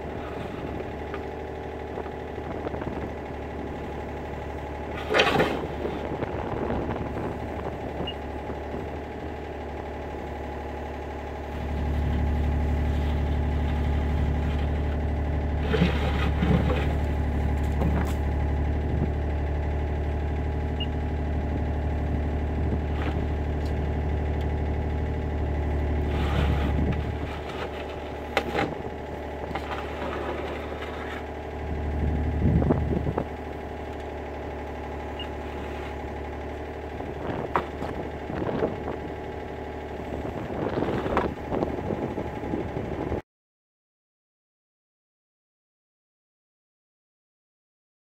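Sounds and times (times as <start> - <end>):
excavator diesel engine running: 0.0 - 43.2.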